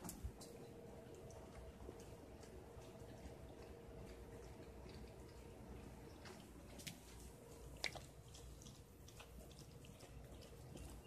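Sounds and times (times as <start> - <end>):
dog licking puppy: 0.0 - 11.0
faint steady hum: 0.0 - 11.0.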